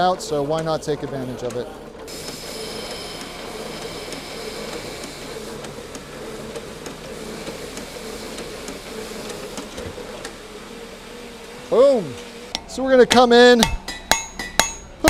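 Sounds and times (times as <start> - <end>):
power hacksaw cutting steel: 2.1 - 15.0.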